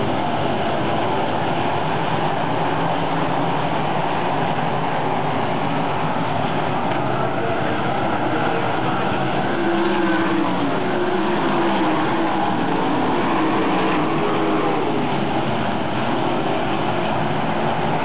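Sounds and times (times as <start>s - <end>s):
racing car engines droning: 0.0s - 18.0s.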